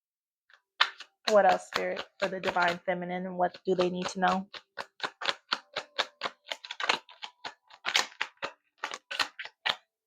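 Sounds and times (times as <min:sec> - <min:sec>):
cards being shuffled: 0:00.5 - 0:02.9, 0:03.5 - 0:09.9.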